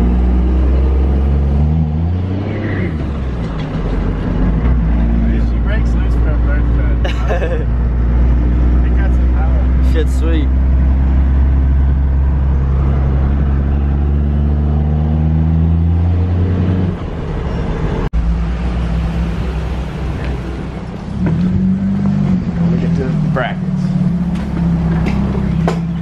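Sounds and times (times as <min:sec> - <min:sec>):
rough vehicle hum: 0:00.0 - 0:26.0.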